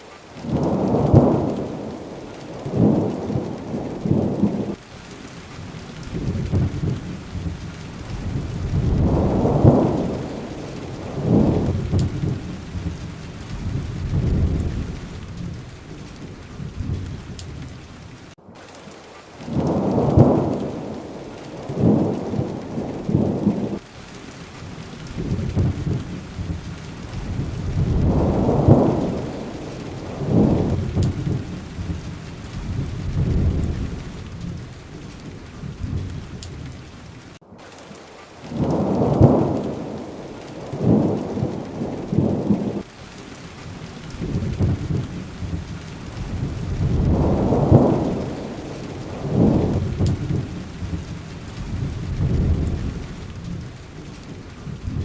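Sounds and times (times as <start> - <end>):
steady rain falling: 0.0 - 55.0
rolling thunder: 0.4 - 4.8, 5.6 - 18.4, 19.4 - 23.9, 24.6 - 37.4, 38.5 - 55.0.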